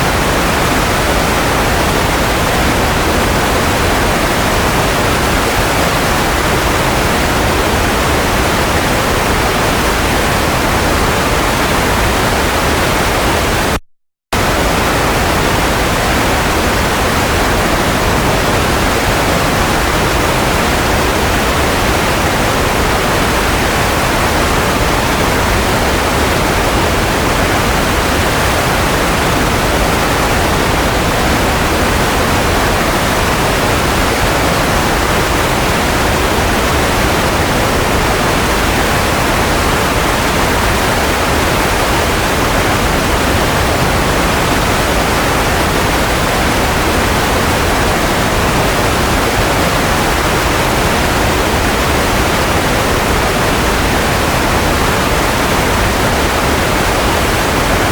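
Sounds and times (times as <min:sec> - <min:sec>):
white noise hiss: 0:00.0 - 0:13.8, 0:14.4 - 0:57.9.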